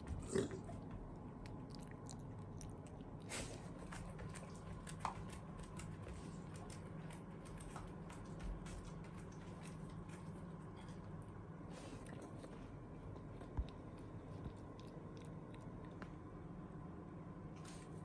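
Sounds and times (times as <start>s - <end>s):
low steady hum: 0.0s - 18.0s
pet crunching dry food: 0.2s - 16.3s.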